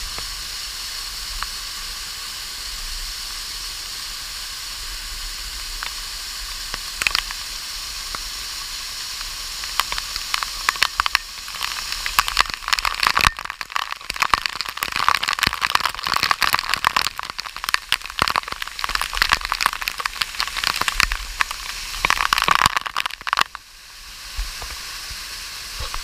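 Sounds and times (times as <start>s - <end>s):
waterfall splashing: 0.0s - 26.0s.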